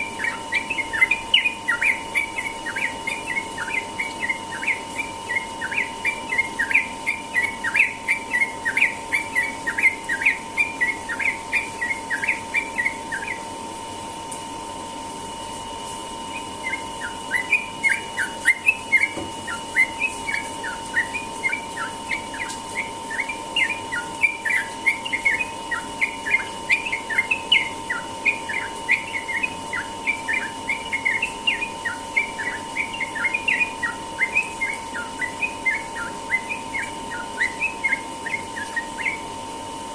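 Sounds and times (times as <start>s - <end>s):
bird singing rapid chirps: 0.0s - 13.6s, 16.3s - 39.5s.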